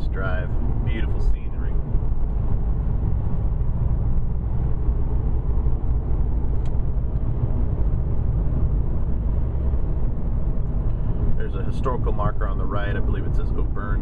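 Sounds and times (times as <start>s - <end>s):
car driving on road: 0.0s - 14.0s.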